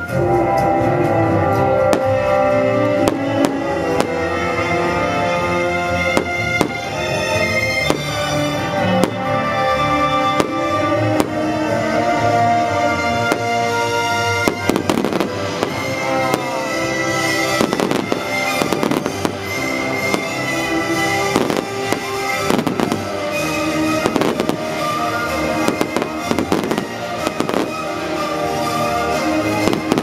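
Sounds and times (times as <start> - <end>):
music with long held notes: 0.0 - 30.0.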